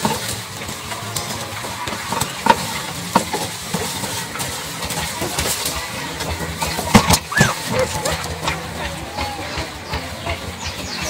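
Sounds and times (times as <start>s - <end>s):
dry grass and twigs rustling: 0.0s - 11.0s.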